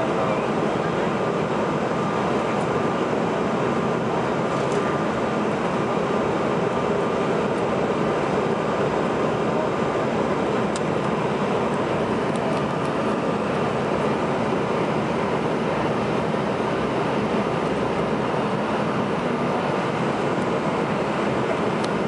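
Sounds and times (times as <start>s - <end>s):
airflow rushing over fuselage: 0.0s - 22.0s
jet engines droning: 0.0s - 22.0s.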